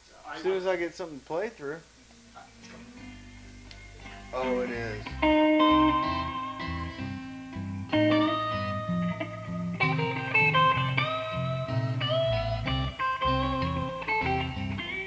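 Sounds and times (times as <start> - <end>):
electric guitar chords: 1.9 - 15.0
bass line: 2.4 - 15.0.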